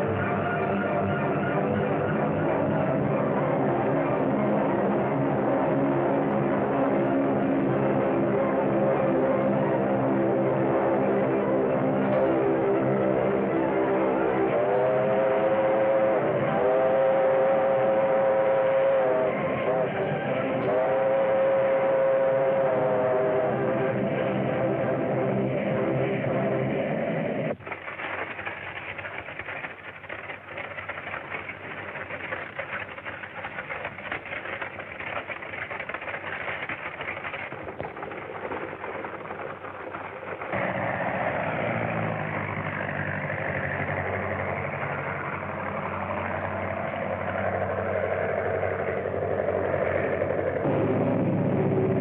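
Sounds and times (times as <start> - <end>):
wheels clicking on rails: 0.0 - 25.0, 27.5 - 52.0
train rattling rumble: 0.0 - 26.9, 27.5 - 52.0
engine drone: 0.0 - 52.0.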